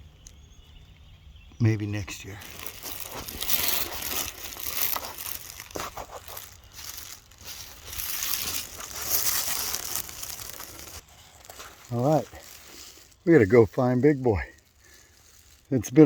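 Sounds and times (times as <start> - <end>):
footsteps crunching through dry leaves: 2.2 - 16.0.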